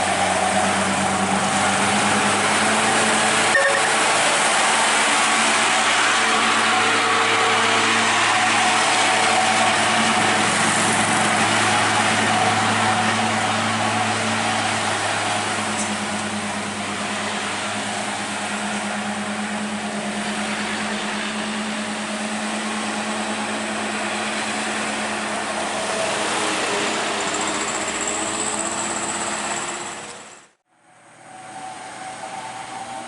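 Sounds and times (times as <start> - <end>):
truck engine humming: 0.0 - 33.0.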